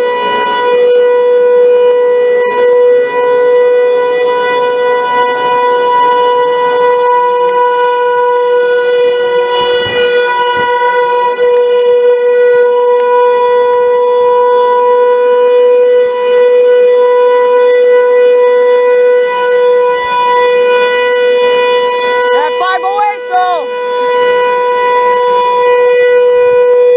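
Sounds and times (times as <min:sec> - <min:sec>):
warning siren steady tone: 0:00.0 - 0:26.9.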